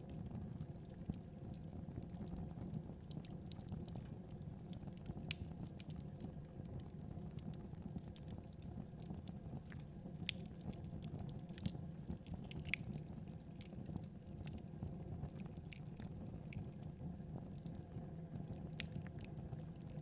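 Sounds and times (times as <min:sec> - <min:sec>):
wood fire crackling: 0:00.1 - 0:20.0.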